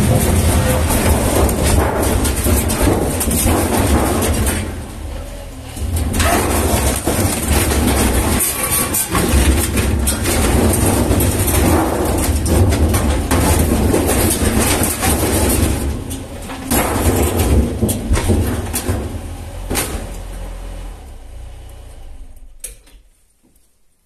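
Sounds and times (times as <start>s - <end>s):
excavator diesel engine running: 0.0s - 22.6s.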